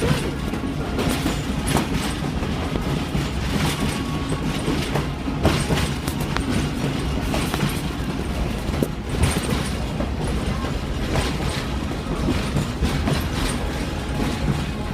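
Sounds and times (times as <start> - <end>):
train rumbling on track: 0.0 - 14.9
wheels clacking over rail joints: 0.0 - 14.9.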